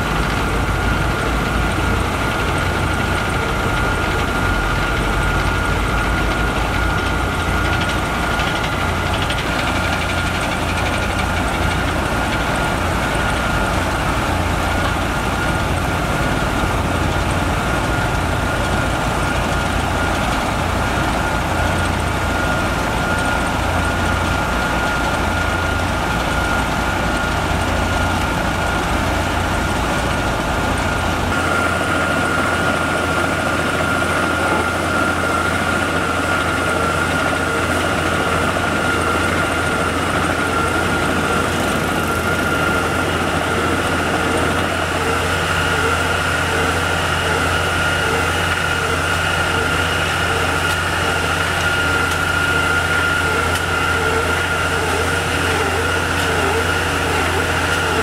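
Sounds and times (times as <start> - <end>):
diesel paving machinery running: 0.0 - 58.0.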